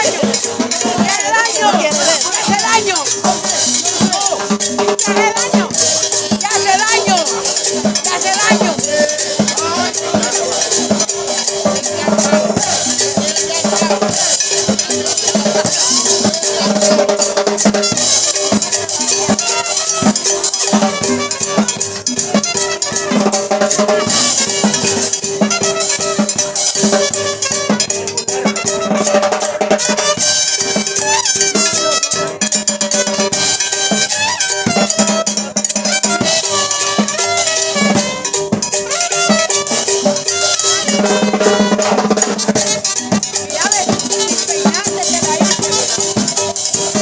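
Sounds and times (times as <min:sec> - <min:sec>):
drums and percussion beat: 0:00.0 - 0:47.0
live band playing dance music: 0:00.0 - 0:47.0.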